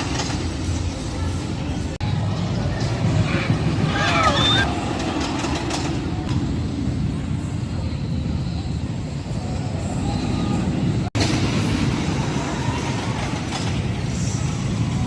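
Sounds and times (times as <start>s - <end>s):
roller coaster train rumbling: 0.0s - 15.0s.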